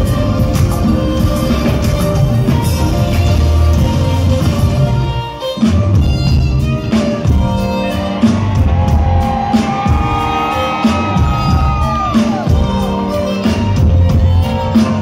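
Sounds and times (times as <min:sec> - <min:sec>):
amplified violin melody: 0:00.0 - 0:15.0
bass and drums: 0:00.0 - 0:15.0.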